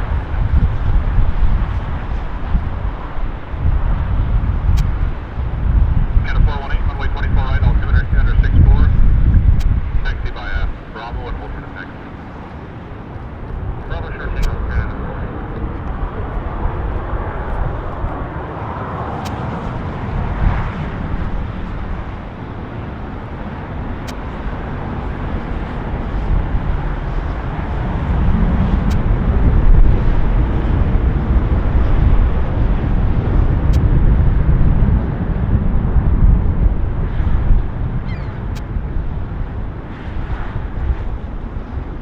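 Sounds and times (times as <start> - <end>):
distant jet engines taxiing: 0.0 - 42.0.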